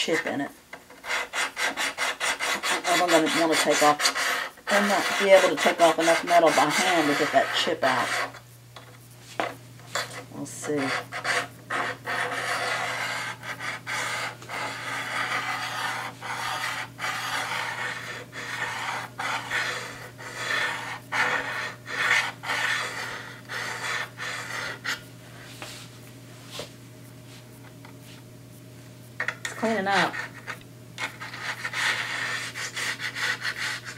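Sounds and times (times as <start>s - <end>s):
hone scraping steel blade: 0.0s - 25.1s, 29.2s - 33.9s.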